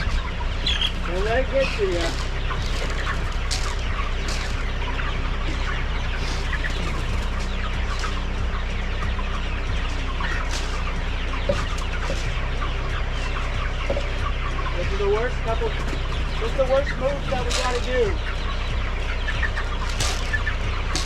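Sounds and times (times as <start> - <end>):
chickens clucking and peeping: 0.0 - 21.0.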